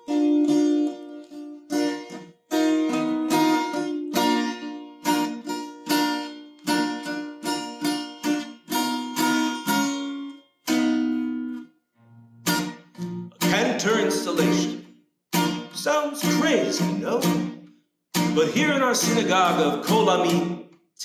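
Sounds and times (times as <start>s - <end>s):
plucked string melody: 0.0s - 20.8s.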